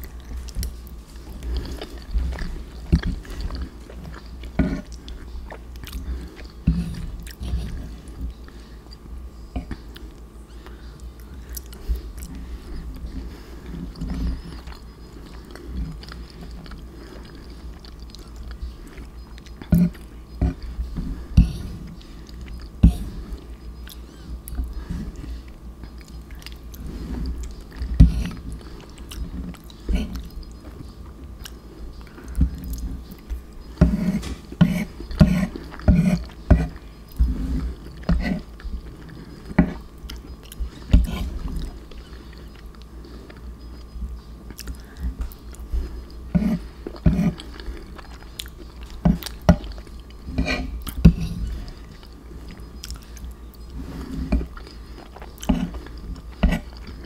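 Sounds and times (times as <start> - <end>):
close chewing with mouth clicks: 0.0 - 21.0, 21.8 - 57.0.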